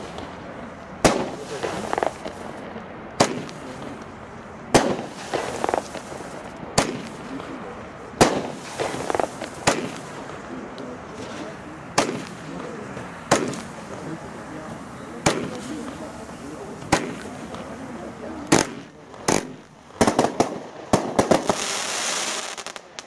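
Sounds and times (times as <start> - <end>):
fireworks crackling: 0.0 - 23.0
fireworks sharp reports: 0.0 - 23.0.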